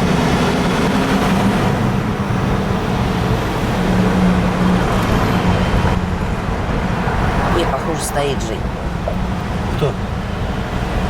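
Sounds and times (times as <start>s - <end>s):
road noise: 0.0s - 11.0s
vehicle interior rumble: 0.0s - 11.0s.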